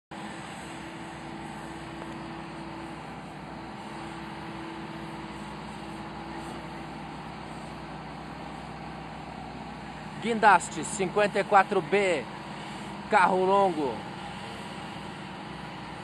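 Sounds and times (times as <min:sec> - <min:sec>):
crane engine droning: 0:00.1 - 0:16.0.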